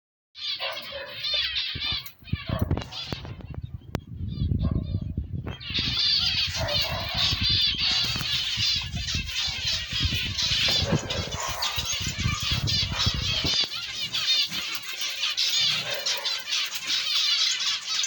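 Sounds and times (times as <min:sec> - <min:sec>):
caged birds chirping: 0:00.4 - 0:18.0.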